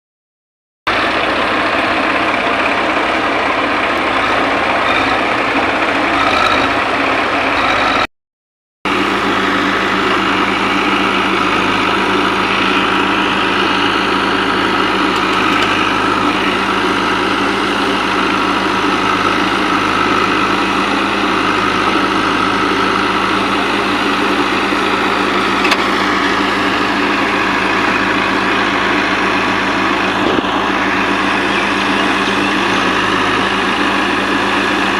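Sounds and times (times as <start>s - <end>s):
diesel engines running: 0.9s - 8.1s, 8.9s - 34.9s.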